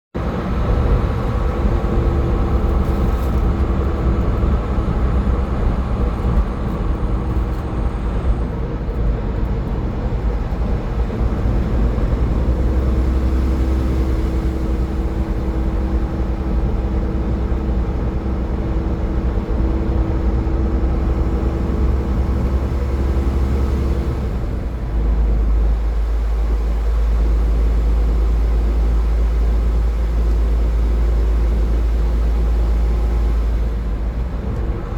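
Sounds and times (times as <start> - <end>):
car road and engine rumble: 0.1 - 34.9.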